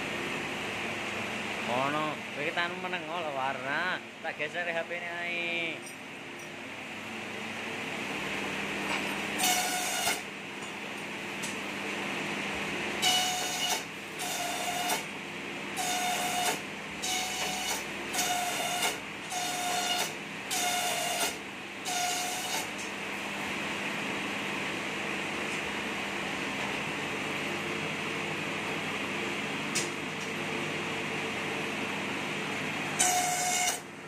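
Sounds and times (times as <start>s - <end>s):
bamboo through cutter whine: 6.6s - 34.0s.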